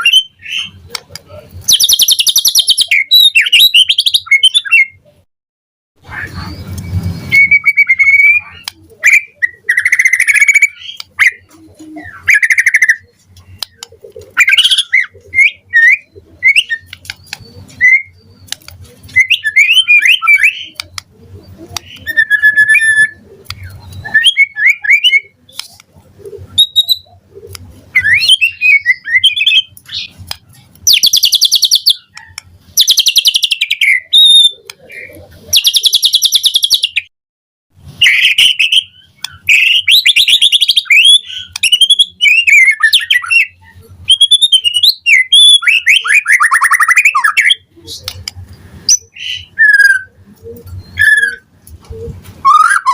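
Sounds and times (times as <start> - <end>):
bird singing whistles and trills: 0.0 - 0.8, 1.7 - 5.1, 6.1 - 20.8, 21.8 - 25.4, 26.5 - 27.2, 27.9 - 30.1, 30.9 - 37.1, 38.0 - 48.2, 48.8 - 51.5, 52.4 - 52.9.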